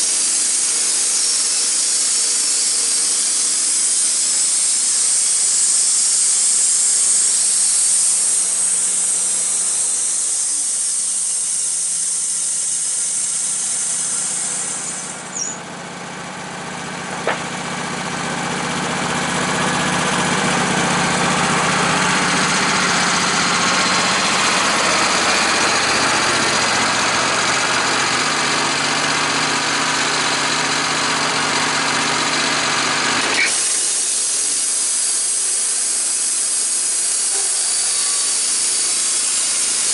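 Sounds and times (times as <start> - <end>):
machine running with hiss: 0.0 - 39.9.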